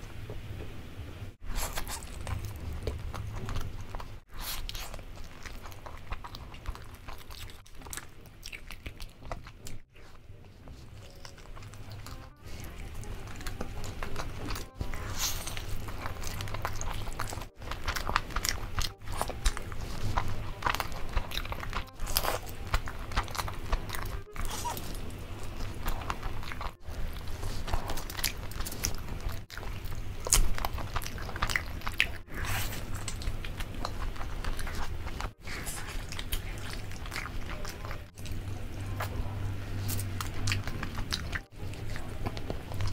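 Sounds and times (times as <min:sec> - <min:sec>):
chewing meat with wet mouth sounds: 0:01.4 - 0:42.9.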